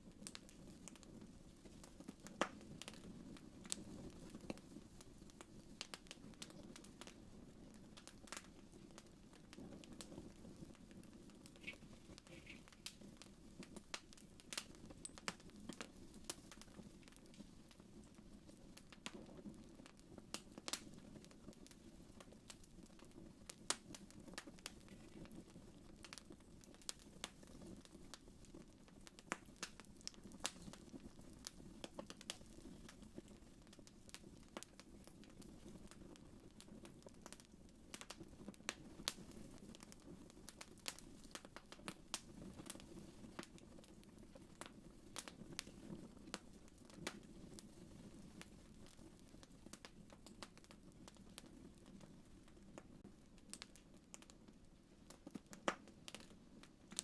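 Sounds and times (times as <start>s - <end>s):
wood fire crackling in fireplace: 0.0s - 57.0s.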